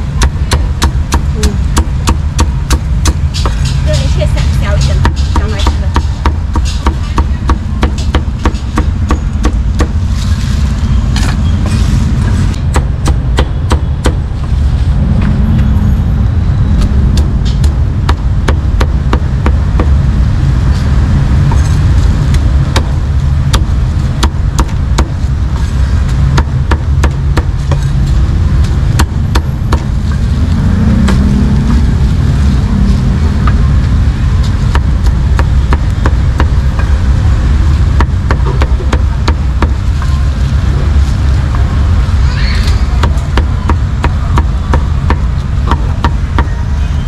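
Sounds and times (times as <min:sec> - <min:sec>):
low rumble: 0:00.0 - 0:47.0.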